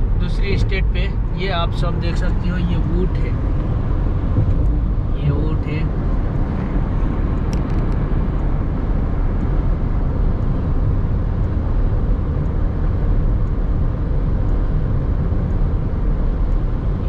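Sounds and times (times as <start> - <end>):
car driving at highway speed: 0.0 - 17.0.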